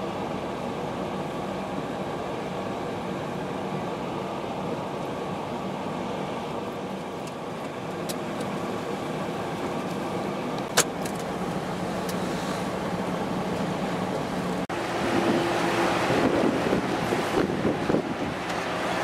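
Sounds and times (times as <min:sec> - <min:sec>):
ship engine droning: 0:00.0 - 0:19.0.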